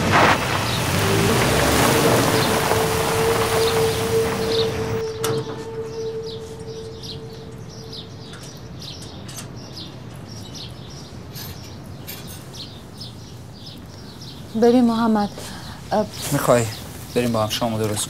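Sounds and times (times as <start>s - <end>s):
small birds chirping: 0.2s - 5.0s, 5.9s - 18.0s.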